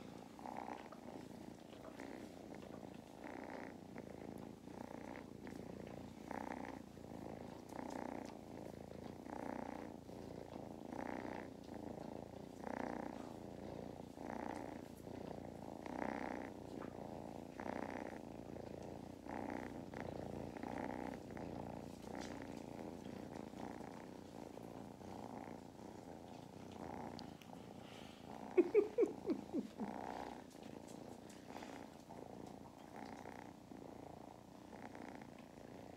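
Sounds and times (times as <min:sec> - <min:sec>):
kittens purring: 0:00.0 - 0:35.9.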